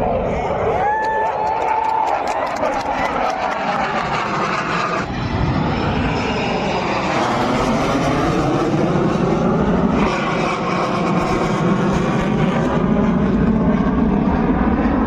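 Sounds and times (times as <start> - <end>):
military aircraft flying over: 0.0 - 15.0.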